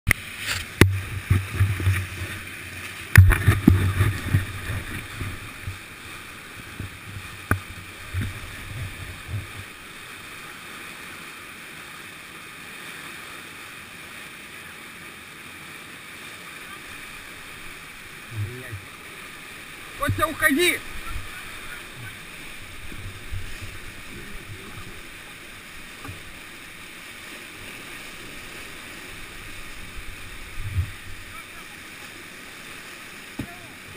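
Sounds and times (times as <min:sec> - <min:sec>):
whitewater rushing: 0:00.1 - 0:33.9.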